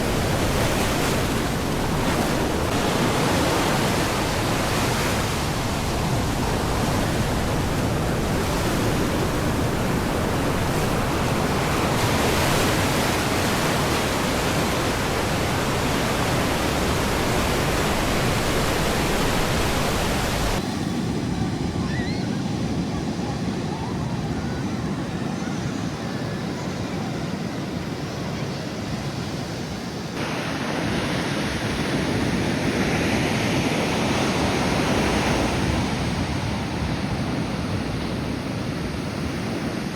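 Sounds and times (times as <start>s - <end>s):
surf washing on beach: 0.0s - 39.9s
wind on microphone: 0.0s - 39.9s.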